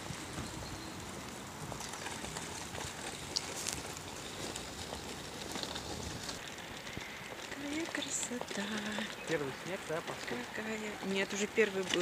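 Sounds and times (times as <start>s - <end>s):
footsteps on wet asphalt: 0.0s - 12.0s
stroller wheels rolling: 0.0s - 12.0s.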